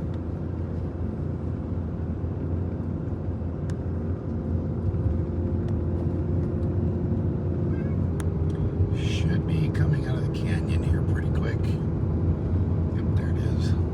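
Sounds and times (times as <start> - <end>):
truck engine and road hum: 0.0 - 13.9.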